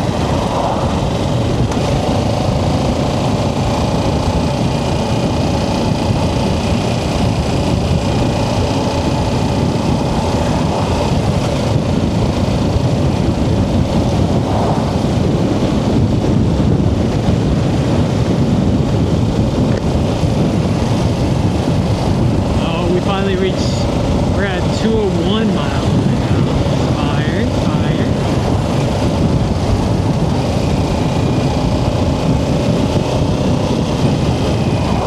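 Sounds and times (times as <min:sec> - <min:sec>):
motorcycle engine running: 0:00.0 - 0:35.0
rush of noise: 0:00.0 - 0:35.0.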